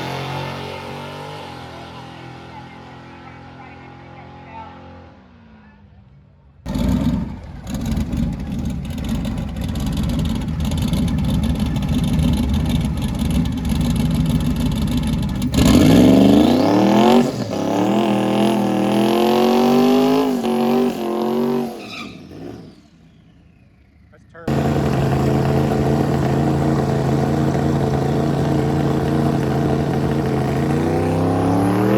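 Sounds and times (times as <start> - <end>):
drag racer engine: 0.0 - 31.9.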